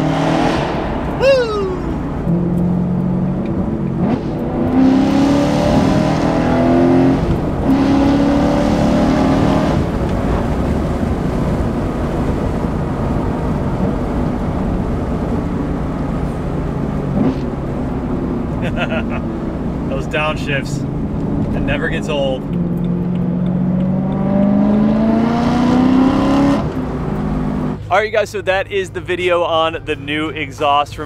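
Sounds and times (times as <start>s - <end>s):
car engine accelerating: 0.0s - 28.0s
road noise: 0.0s - 31.0s.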